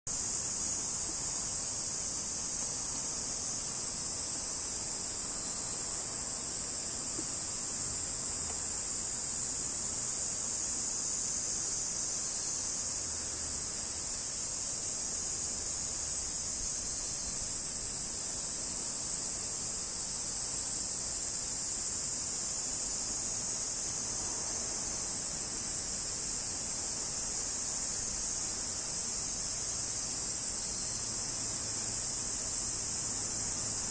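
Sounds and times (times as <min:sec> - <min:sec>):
cicada buzzing: 0:00.1 - 0:33.9.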